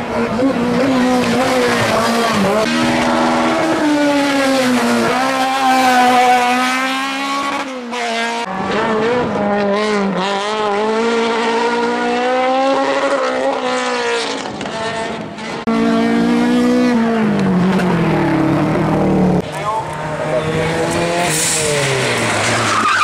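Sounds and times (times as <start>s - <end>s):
race car engine at high revs: 0.0s - 23.0s
rally car engine: 0.0s - 23.0s.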